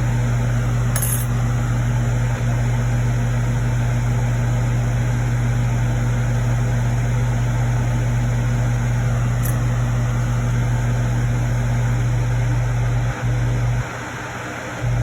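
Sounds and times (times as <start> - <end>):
hot air station fan humming: 0.0 - 15.0.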